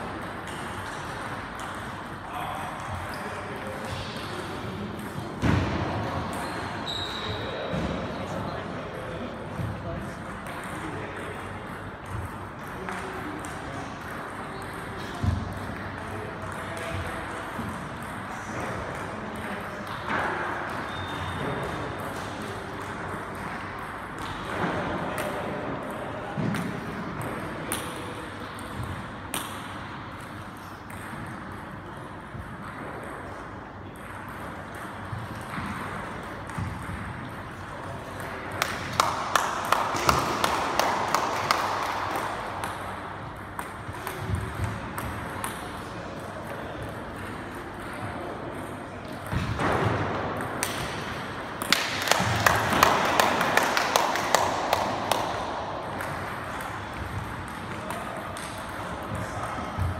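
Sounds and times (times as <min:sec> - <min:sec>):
table tennis balls clicking: 0:00.0 - 0:03.4, 0:10.3 - 0:59.2.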